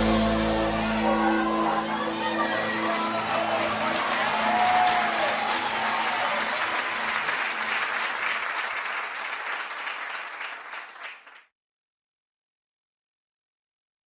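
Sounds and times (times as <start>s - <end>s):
audience applause: 0.0s - 11.5s.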